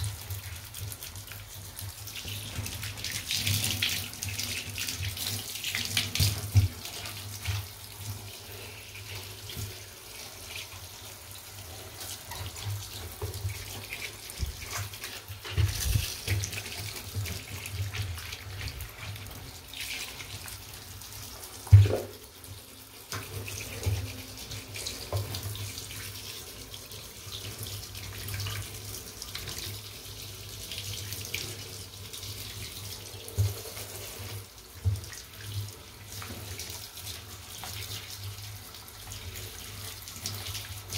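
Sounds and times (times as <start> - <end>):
shower water splashing on sneakers: 0.0 - 40.9.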